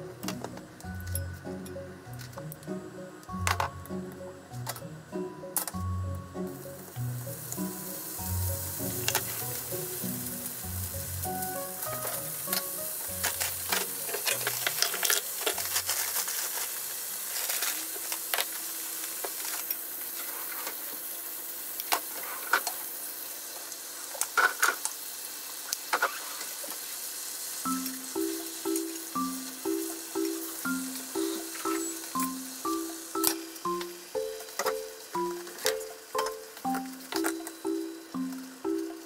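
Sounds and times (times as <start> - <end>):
oil sizzling and popping: 0.0 - 39.0.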